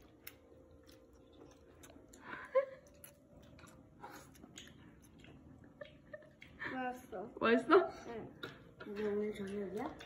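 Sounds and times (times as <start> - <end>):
child chewing: 0.0 - 7.2, 7.9 - 10.0.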